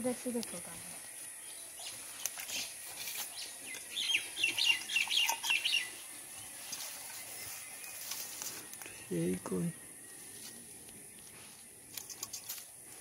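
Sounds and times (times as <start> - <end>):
small bird chirping: 1.2 - 12.5.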